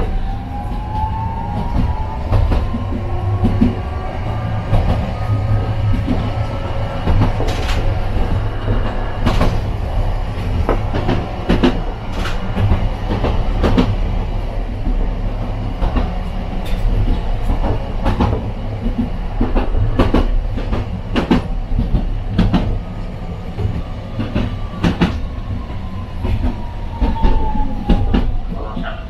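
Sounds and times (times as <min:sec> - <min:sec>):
tram rumbling on rails: 0:00.0 - 0:29.0
wheels clacking over rail joints: 0:04.6 - 0:29.0.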